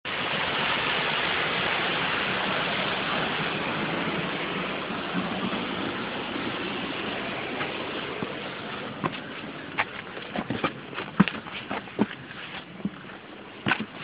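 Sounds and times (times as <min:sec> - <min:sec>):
rush of falling water: 0:00.1 - 0:14.0.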